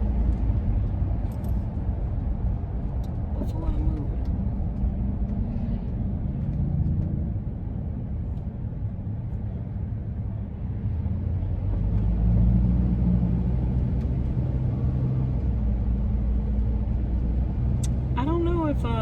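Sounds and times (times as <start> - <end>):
van engine and road rumble: 0.0 - 19.0.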